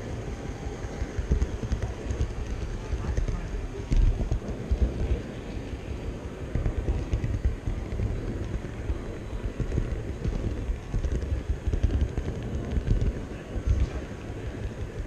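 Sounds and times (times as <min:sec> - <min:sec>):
hall background noise: 0:00.0 - 0:15.0
model train wheels rumbling: 0:00.0 - 0:15.0
wheels clicking over rail joints: 0:00.0 - 0:15.0.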